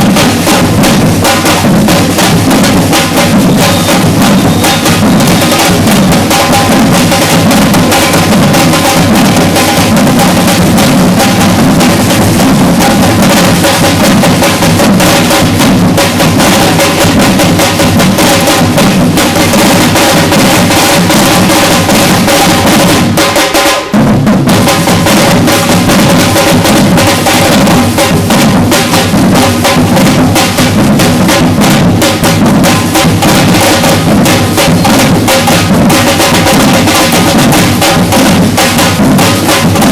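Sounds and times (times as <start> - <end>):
percussion ensemble drumming: 0.0 - 39.9.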